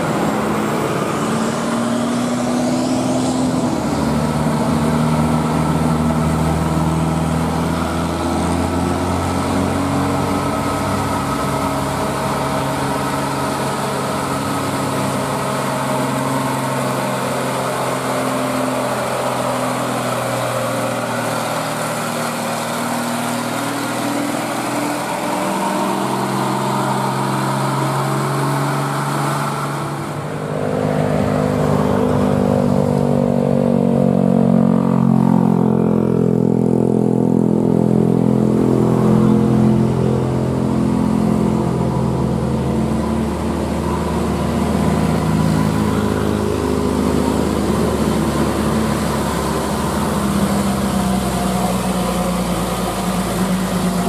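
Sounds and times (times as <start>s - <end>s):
second truck diesel engine: 0.0s - 54.0s
truck diesel engine climbing: 0.0s - 54.0s.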